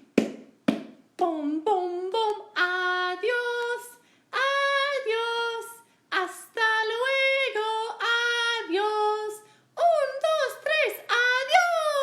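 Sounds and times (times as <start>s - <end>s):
high voice singing: 1.2s - 12.0s.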